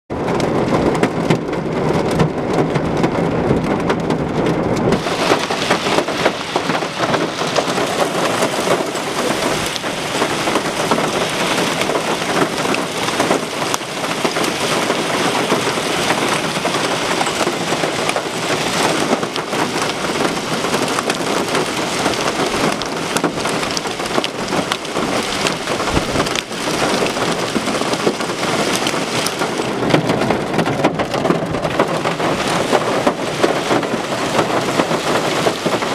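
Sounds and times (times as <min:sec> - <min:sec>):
hail pelting down: 0:00.1 - 0:35.9.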